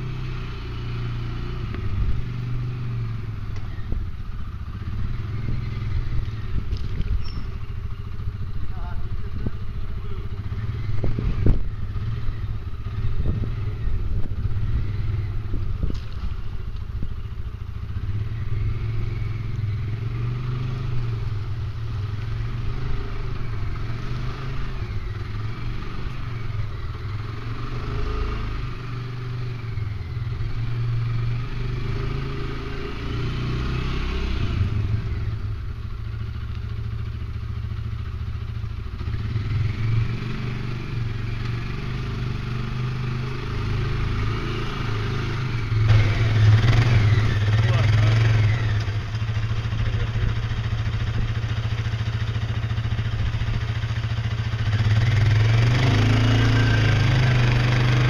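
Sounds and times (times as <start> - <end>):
quad engine running under load: 0.0 - 58.0.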